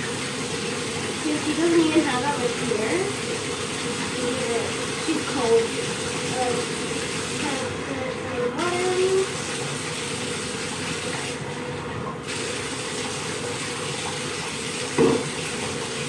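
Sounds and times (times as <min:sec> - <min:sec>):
tap running into bathtub: 0:00.0 - 0:16.0.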